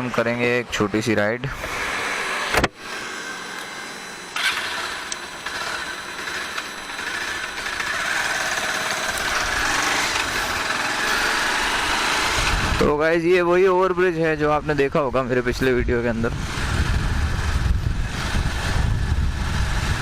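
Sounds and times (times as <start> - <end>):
road noise: 0.0 - 20.0
motorcycle engine running: 1.4 - 20.0.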